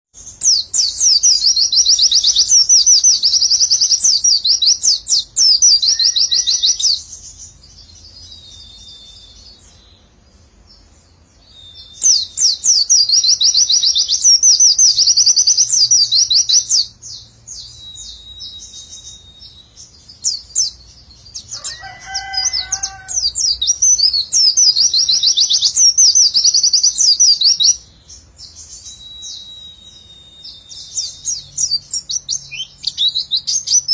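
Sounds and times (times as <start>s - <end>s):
bird singing rapid high notes: 0.2s - 10.1s, 11.1s - 33.9s.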